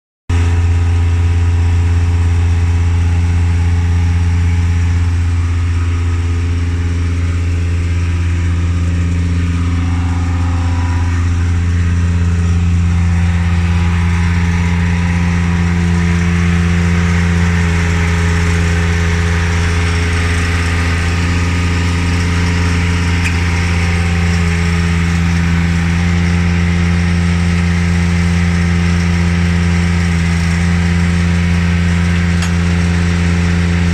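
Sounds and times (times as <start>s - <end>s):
engine running steadily: 0.3s - 33.9s.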